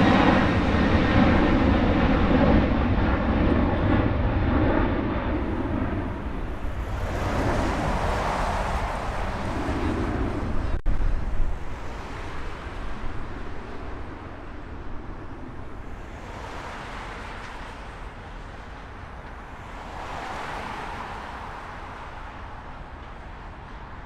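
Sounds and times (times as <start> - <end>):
jet engines roaring: 0.0 - 24.0
wind buffeting microphone: 0.0 - 24.0.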